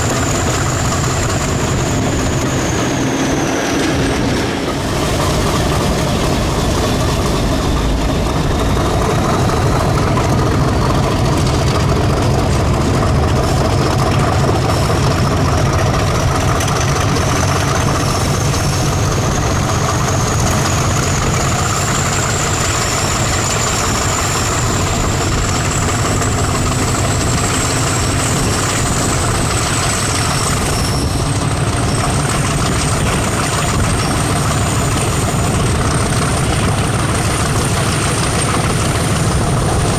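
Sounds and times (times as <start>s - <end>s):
diesel locomotive engine idling: 0.0s - 39.9s.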